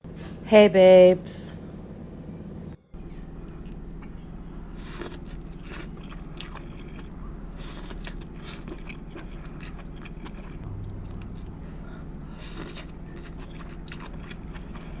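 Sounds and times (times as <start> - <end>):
person chewing food: 3.0 - 15.0.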